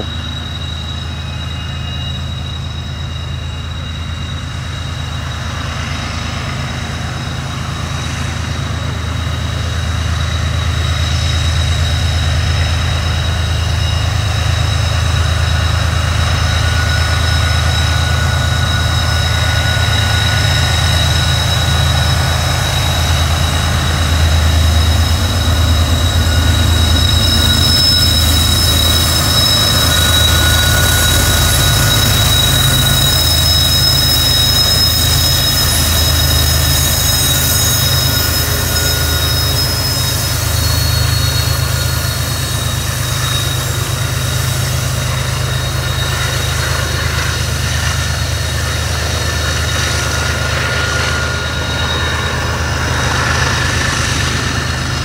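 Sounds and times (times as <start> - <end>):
diesel locomotive engine rumble: 0.0 - 55.0
high-pitched wheel squeal: 0.0 - 55.0.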